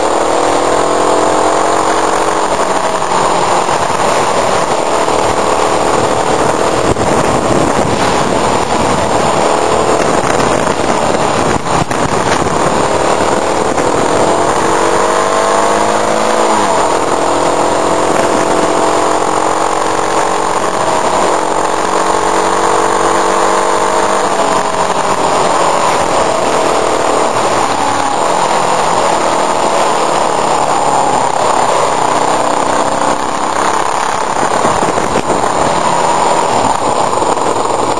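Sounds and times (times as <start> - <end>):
motorcycle engine running: 0.0 - 37.9
wind noise on microphone: 0.0 - 37.9.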